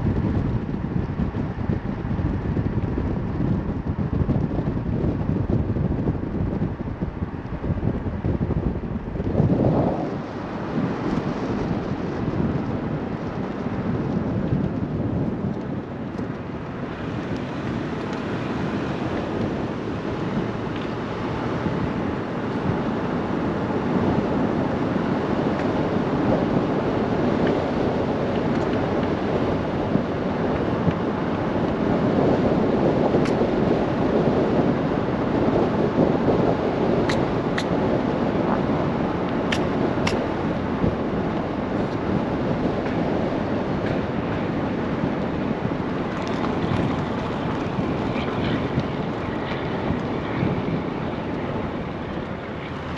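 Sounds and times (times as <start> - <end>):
road and wind noise in car: 0.0 - 52.9.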